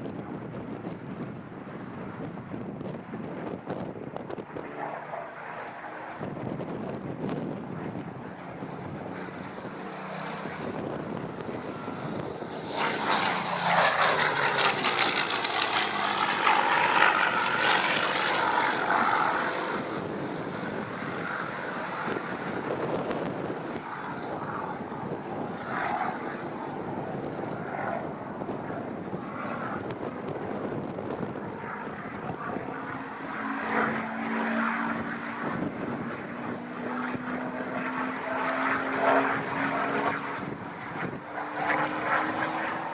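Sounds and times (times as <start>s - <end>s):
propeller plane engine flypast: 0.0s - 42.9s.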